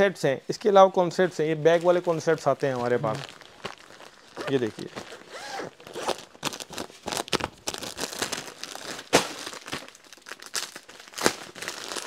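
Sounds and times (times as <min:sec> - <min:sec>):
plastic packets crinkling: 0:01.3 - 0:12.0.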